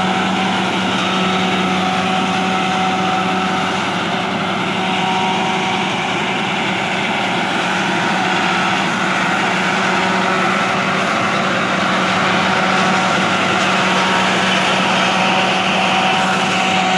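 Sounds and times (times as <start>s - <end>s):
forage harvester cutter and blower: 0.0s - 16.9s
tractor engine running: 0.0s - 16.9s.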